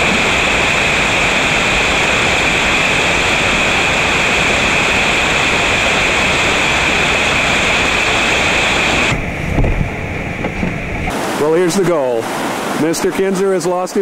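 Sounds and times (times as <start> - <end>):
waterfall rushing: 0.0 - 9.5, 10.9 - 14.0
low rumbling: 0.0 - 12.4.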